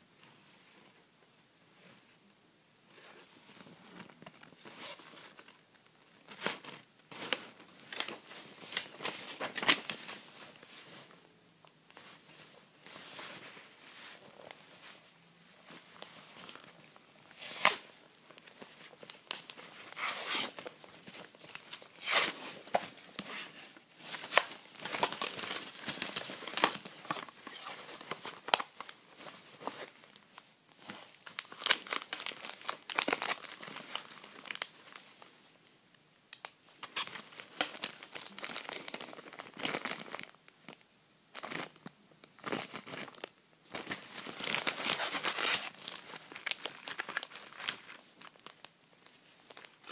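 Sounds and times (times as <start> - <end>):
plastic and foil crinkling: 3.6 - 11.2, 15.6 - 35.4, 36.3 - 49.9.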